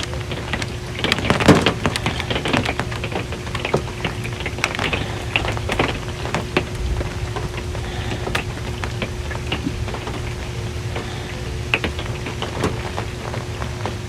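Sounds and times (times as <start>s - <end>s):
faint steady hum: 0.0s - 14.0s
low rumble: 0.0s - 14.0s
raindrops on a metal roof: 0.0s - 14.0s.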